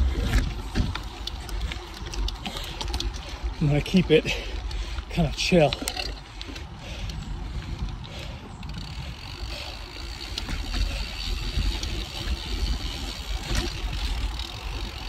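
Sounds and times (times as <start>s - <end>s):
bike clicks and rattles: 0.0s - 15.0s
bike tyres rolling over dirt: 0.0s - 15.0s
wind rumble on microphone: 0.0s - 15.0s.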